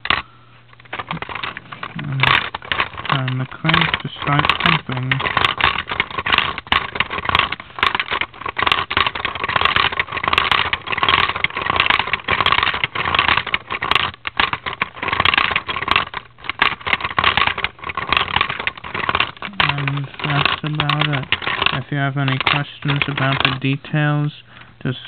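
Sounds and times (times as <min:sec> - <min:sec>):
marbles clicking: 0:00.0 - 0:25.0
plastic gears clattering: 0:00.0 - 0:25.0.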